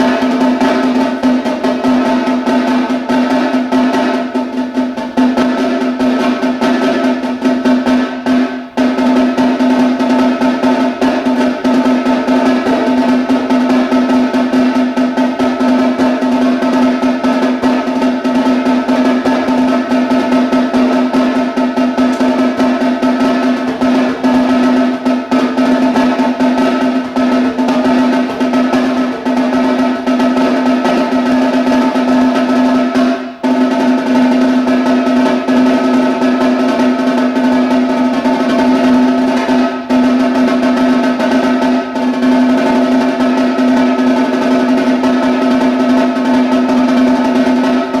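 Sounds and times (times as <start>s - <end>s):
snare drum rolls: 0.0s - 48.0s.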